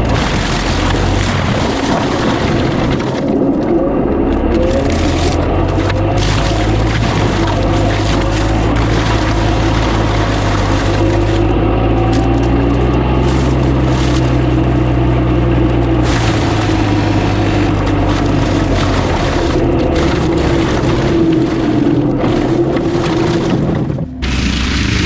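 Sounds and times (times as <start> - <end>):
diesel engine under load: 0.0 - 25.0
mulching head grinding brush: 0.0 - 25.0.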